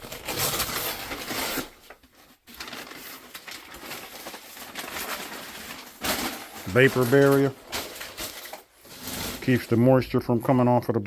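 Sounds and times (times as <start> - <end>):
plastic sheeting crinkling: 0.0 - 10.6.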